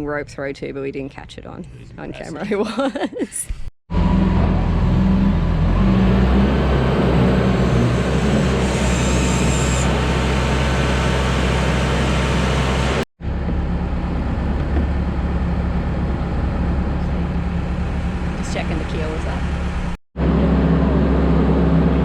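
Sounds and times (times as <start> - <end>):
travel lift engine droning: 3.9 - 22.0.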